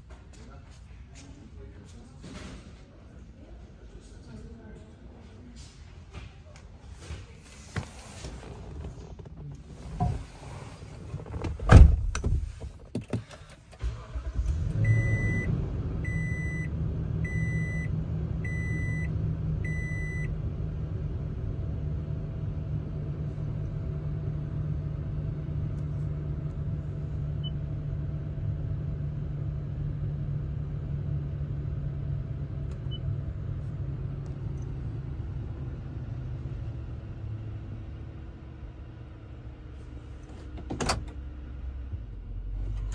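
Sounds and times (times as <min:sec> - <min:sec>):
car engine starting and idling: 0:07.5 - 0:42.9.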